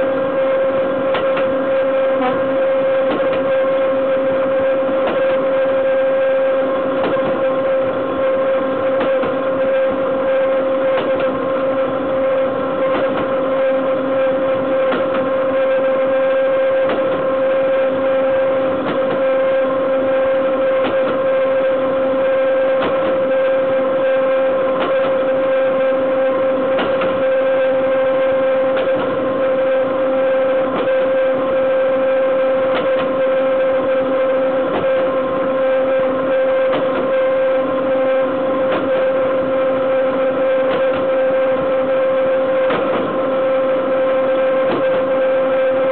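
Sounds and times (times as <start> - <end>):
high steady hum: 0.0 - 45.9.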